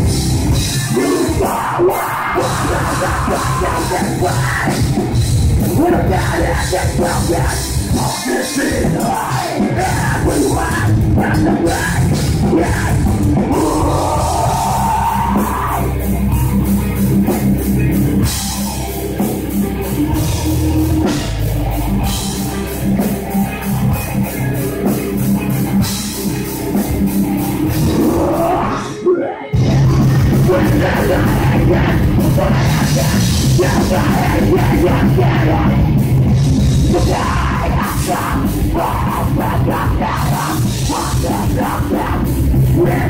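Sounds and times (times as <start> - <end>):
bass guitar: 0.0 - 43.0
distorted electric guitars: 0.0 - 43.0
drum kit: 0.0 - 43.0.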